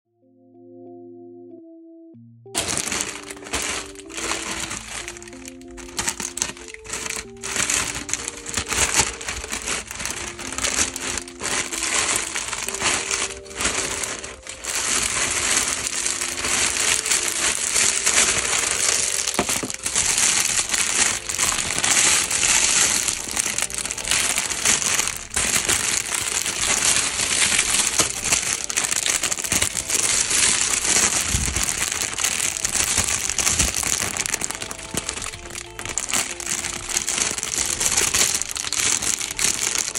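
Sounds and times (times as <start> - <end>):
soft background music: 0.1 - 39.9
plastic bags crinkling: 2.6 - 39.9.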